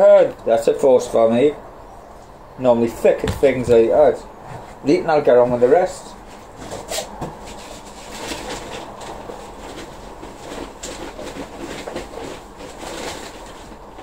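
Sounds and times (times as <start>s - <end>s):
hands rustling potting compost: 2.7s - 14.0s.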